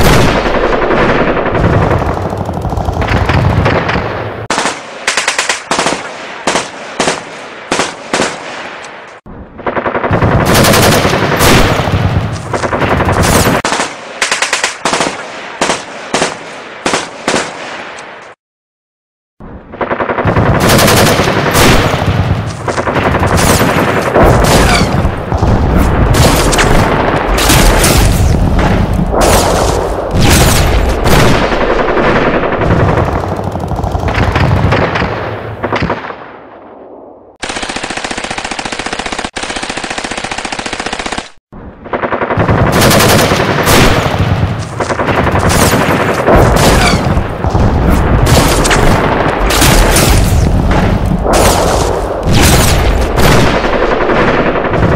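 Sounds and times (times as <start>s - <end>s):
machine-gun and rifle fire: 0.0s - 18.0s, 19.6s - 36.5s, 37.3s - 54.9s.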